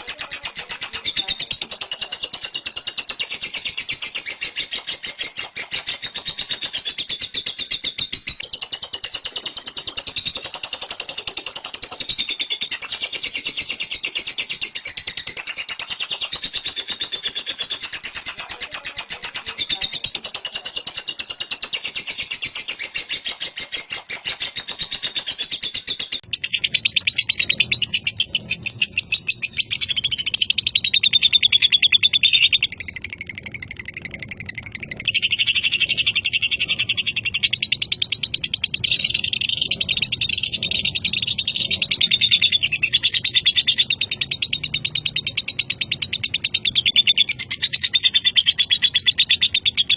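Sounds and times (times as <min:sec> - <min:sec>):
lovebird chattering trill: 0:00.0 - 0:49.9.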